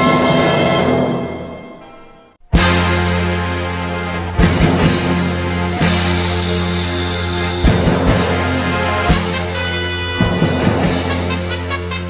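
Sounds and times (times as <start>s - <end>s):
dramatic orchestral music: 0.0s - 12.0s.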